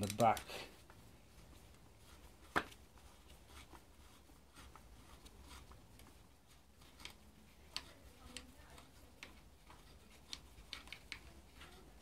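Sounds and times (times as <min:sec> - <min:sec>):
light metal rubbing: 0:00.0 - 0:12.0.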